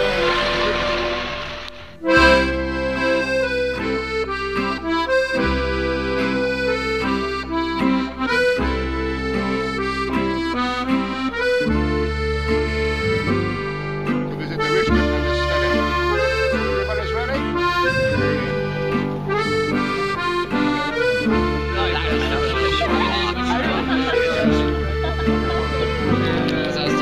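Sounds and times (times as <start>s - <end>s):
accordion music: 0.0s - 27.0s.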